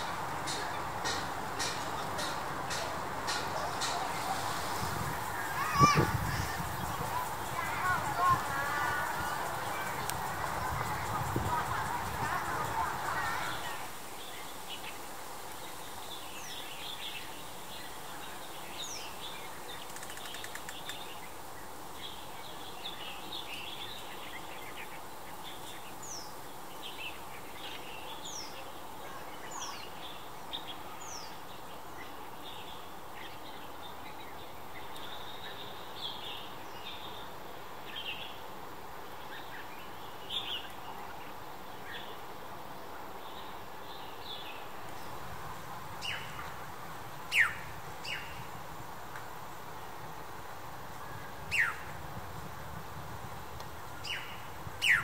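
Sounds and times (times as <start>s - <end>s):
small birds chirping: 0.0s - 38.4s, 43.2s - 48.6s, 53.5s - 55.0s
steady outdoor hiss: 0.0s - 55.0s.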